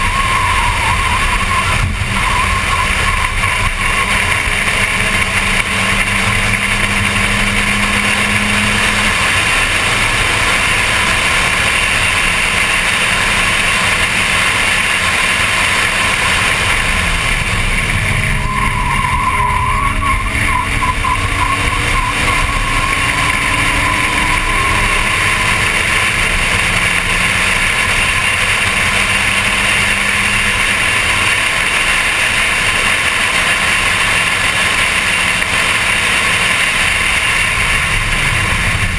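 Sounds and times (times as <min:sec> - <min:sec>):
wind noise: 0:00.0 - 0:34.1
race car engine running hard: 0:00.0 - 0:38.9
road noise: 0:00.0 - 0:38.9.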